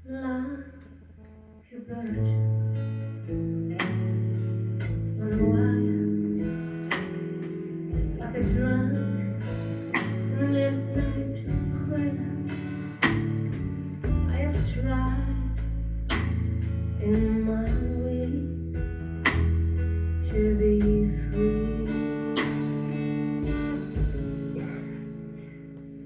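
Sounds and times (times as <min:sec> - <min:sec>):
low bass notes: 0:02.1 - 0:26.0
acoustic guitar strumming: 0:02.2 - 0:26.0.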